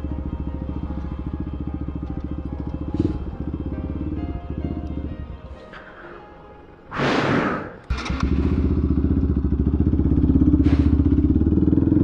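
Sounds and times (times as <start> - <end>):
motorcycle engine idling: 0.0 - 5.8, 7.9 - 12.0.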